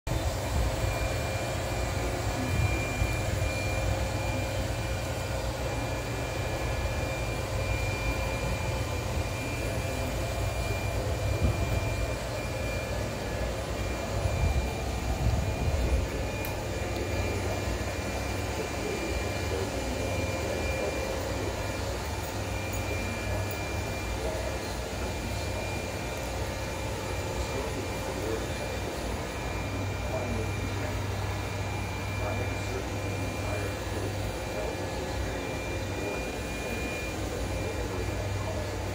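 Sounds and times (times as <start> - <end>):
robot vacuum cleaner humming: 0.1 - 38.9.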